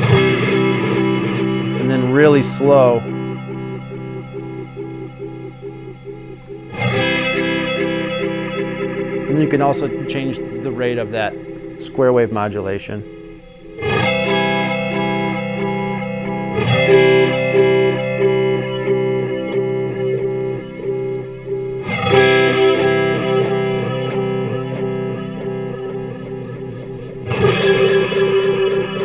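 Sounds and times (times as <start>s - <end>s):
flanged electric guitar chords: 0.0s - 29.0s.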